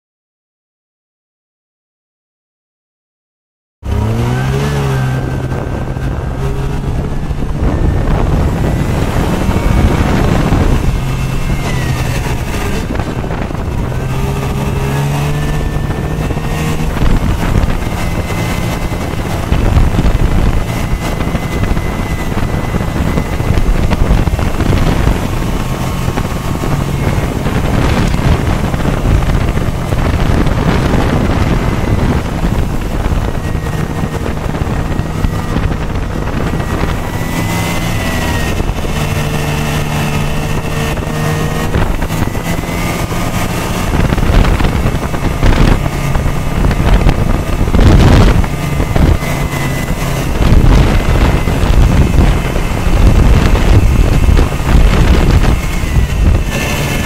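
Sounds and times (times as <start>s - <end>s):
snowmobile engine running: 3.8s - 57.0s
wind buffeting microphone: 3.8s - 57.0s.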